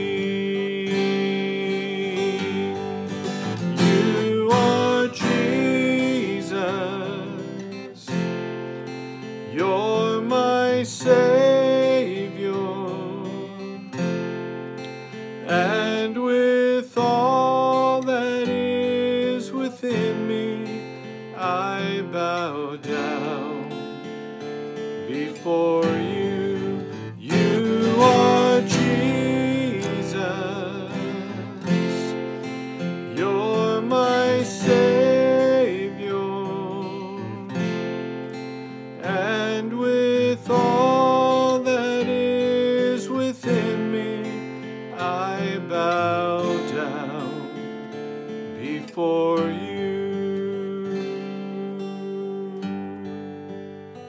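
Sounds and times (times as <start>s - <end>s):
man singing a worship song: 0.0s - 8.2s, 9.5s - 13.8s, 15.4s - 23.8s, 25.0s - 32.2s, 33.1s - 37.6s, 39.0s - 47.6s, 48.6s - 52.8s
strummed acoustic guitar: 0.0s - 54.0s.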